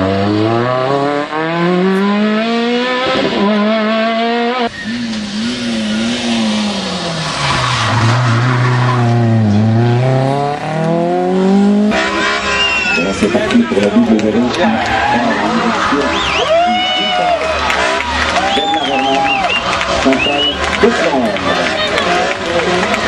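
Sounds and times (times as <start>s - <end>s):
rally car engine at hard throttle: 0.0s - 23.0s.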